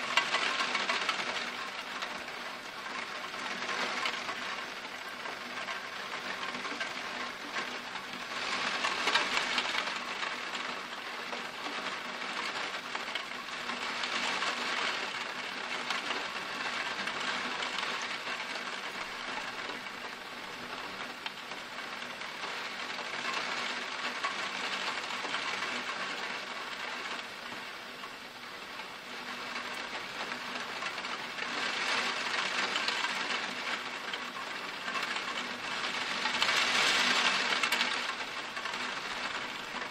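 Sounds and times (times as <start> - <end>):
torrential rain pouring: 0.0 - 39.9.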